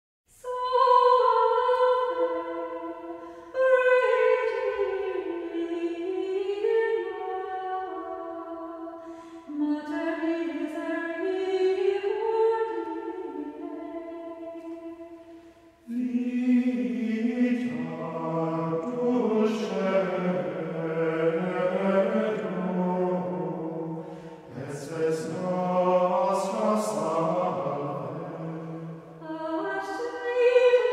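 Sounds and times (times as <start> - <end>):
choral singing: 0.4 - 30.9.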